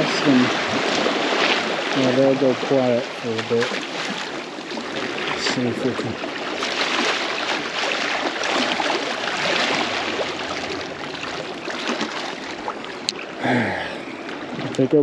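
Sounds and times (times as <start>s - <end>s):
sea water lapping over rocks: 0.0s - 15.0s.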